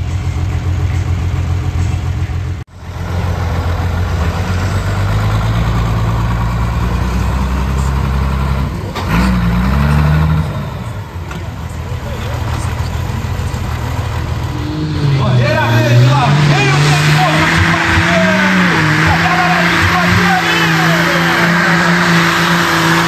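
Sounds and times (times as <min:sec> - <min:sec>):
diesel engine running: 0:00.0 - 0:23.0
engine revving: 0:00.0 - 0:23.0.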